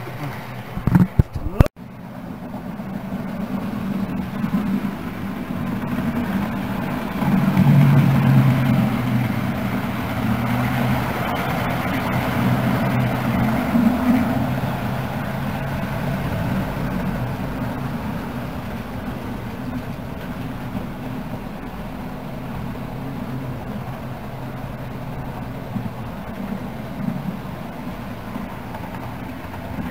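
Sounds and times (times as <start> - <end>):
model train running on rails: 1.8 - 29.9.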